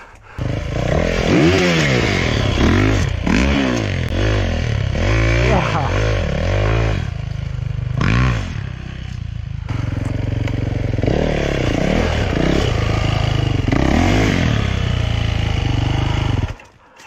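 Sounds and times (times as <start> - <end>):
dirt bike engine revving: 0.4 - 16.6.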